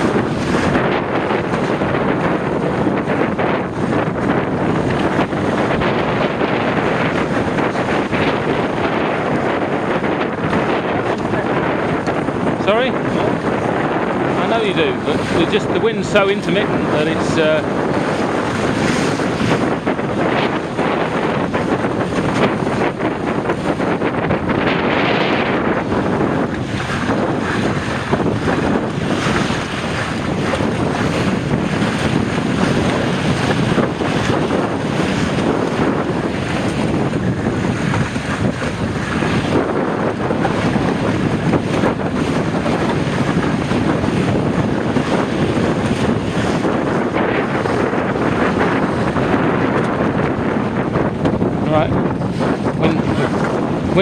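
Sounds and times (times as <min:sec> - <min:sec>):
water splashing along hull: 0:00.0 - 0:54.0
wind buffeting microphone: 0:00.0 - 0:54.0.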